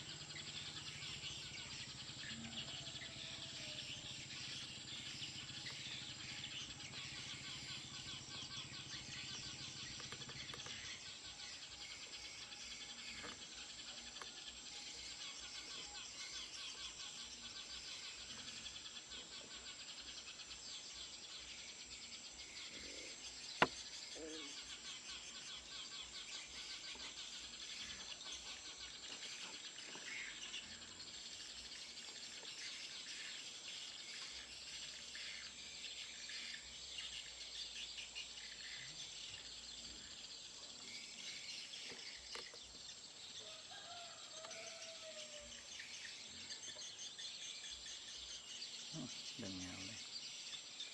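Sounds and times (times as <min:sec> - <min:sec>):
sparrows chirping: 0:00.0 - 0:50.9.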